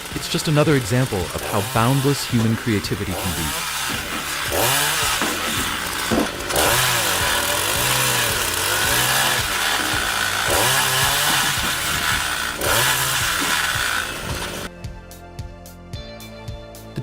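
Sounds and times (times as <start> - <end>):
chainsaw cutting wood: 0.0 - 14.7.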